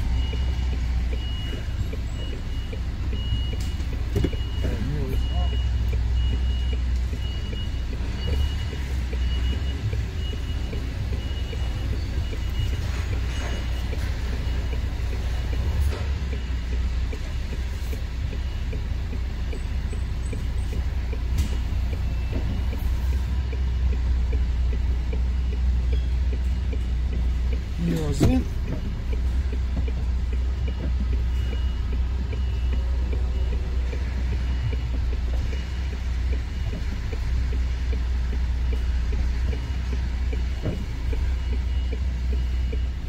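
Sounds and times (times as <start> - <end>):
diesel engine rumbling: 0.0 - 43.0
reversing alarm beeping: 0.0 - 43.0.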